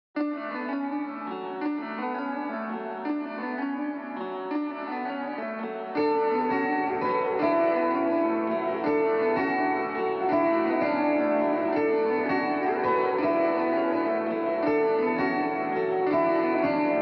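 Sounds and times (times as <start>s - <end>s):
plucked guitar melody: 0.2s - 17.0s.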